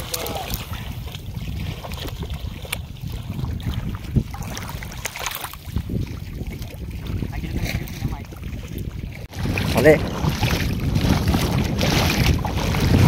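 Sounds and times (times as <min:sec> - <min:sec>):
water splashing: 0:00.0 - 0:13.0
wind buffeting microphone: 0:00.0 - 0:13.0.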